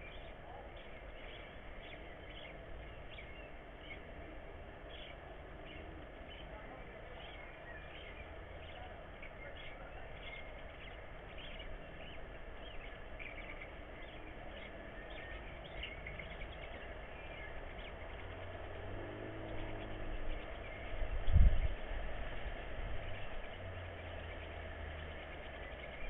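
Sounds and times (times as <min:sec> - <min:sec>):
bird chirps: 0:00.0 - 0:04.2, 0:04.8 - 0:21.8
steady low hum: 0:00.0 - 0:26.0.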